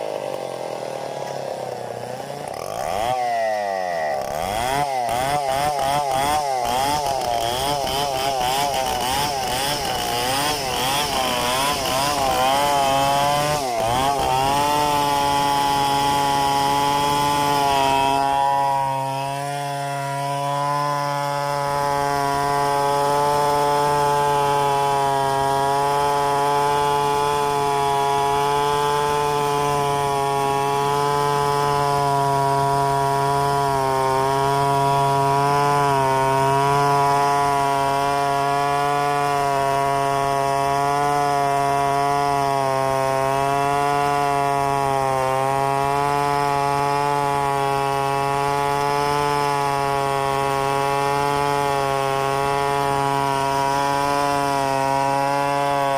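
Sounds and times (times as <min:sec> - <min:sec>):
chainsaw cutting through log: 0:00.0 - 0:55.9.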